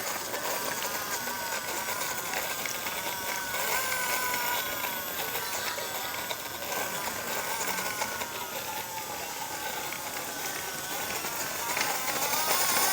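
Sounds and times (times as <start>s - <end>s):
toy motor whining with rattle: 0.0s - 12.9s.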